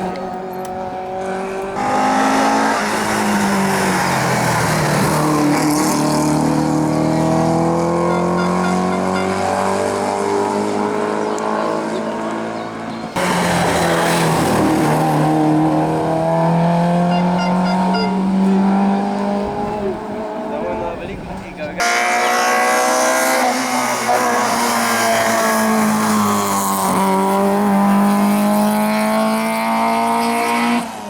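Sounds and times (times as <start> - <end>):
car accelerating: 0.0 - 31.0
race car engines revving: 0.0 - 31.0.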